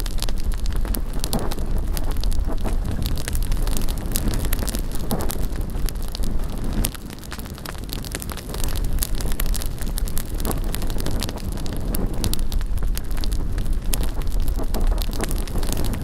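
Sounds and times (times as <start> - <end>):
bonfire wood crackling and popping: 0.0 - 16.0
wind rumble on microphone: 0.0 - 16.0.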